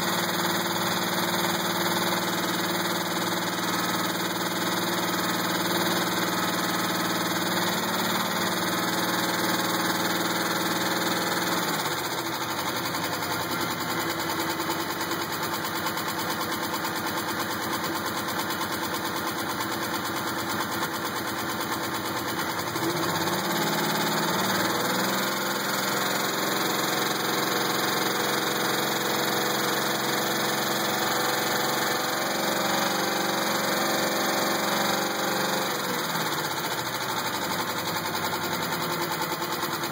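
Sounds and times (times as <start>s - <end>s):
engine knocking: 0.0s - 39.9s.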